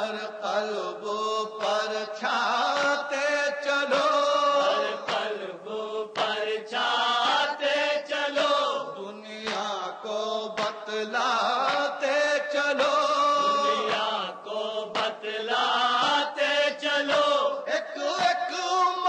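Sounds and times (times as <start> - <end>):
man chanting: 0.0 - 5.6, 6.4 - 19.0.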